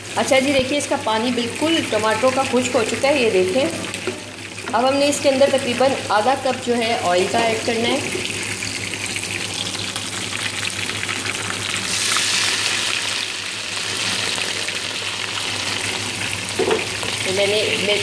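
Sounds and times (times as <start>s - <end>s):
hot oil pouring and bubbling: 0.0s - 18.0s
meat sizzling in a pan: 0.0s - 18.0s.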